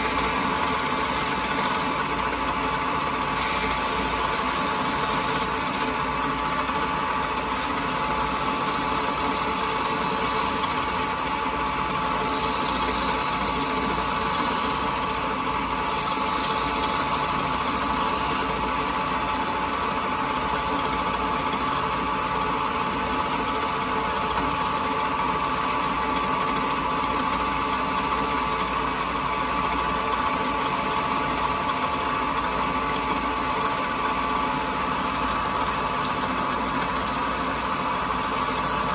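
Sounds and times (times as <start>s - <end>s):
chisel shaving spinning wood: 0.0s - 38.9s
wood lathe humming: 0.0s - 38.9s.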